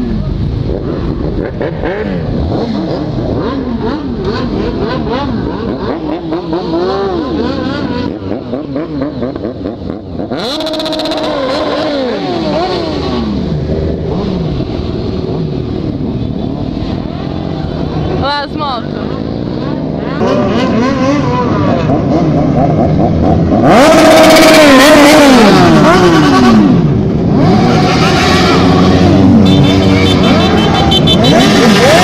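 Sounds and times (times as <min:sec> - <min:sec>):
motorcycles revving and accelerating: 0:00.0 - 0:32.0.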